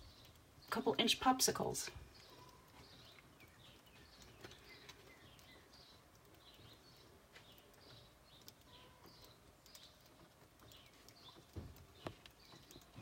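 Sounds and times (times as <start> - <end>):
light ticks: 0.2 - 0.7, 2.2 - 13.0
faint bird chirps: 2.0 - 13.0.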